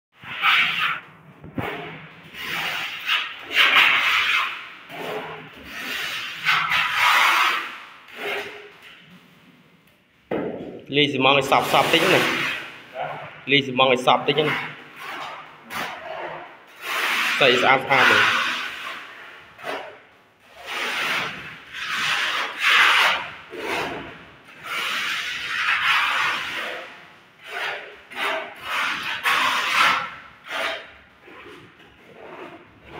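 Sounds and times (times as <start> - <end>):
plastering tool scraping wet render: 0.2 - 9.2, 11.4 - 12.8, 14.1 - 32.9.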